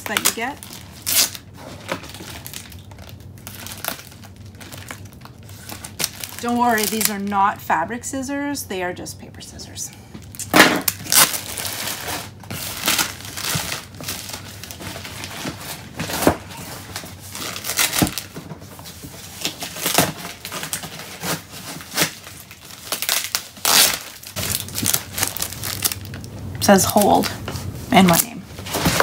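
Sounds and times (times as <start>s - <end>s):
plastic wrapping crinkling: 0.0s - 7.4s, 10.2s - 29.0s.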